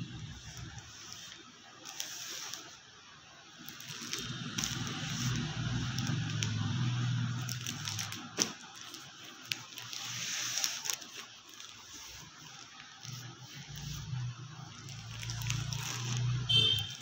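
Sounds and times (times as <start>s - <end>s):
fabric rustling and crinkling: 0.0s - 2.9s, 3.5s - 17.0s.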